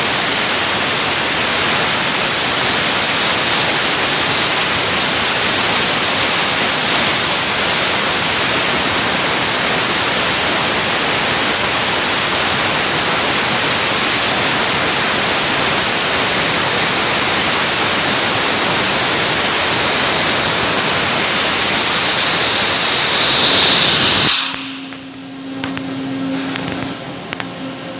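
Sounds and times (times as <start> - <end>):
dry ice blaster hissing: 0.0 - 25.5
steady machine hum: 0.0 - 27.9.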